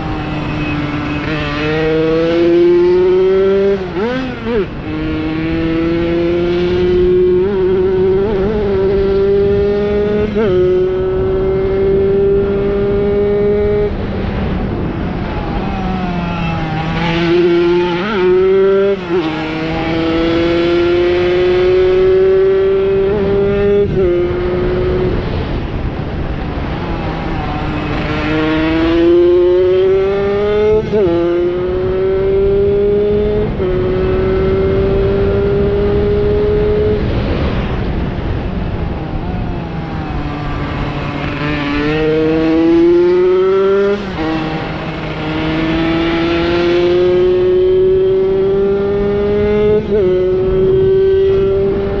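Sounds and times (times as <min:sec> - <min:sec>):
moped engine racing: 0:00.0 - 0:52.0.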